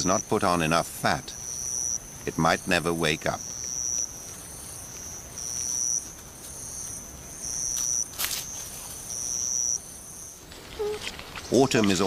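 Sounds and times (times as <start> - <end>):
night insects trilling: 0.0 - 10.9.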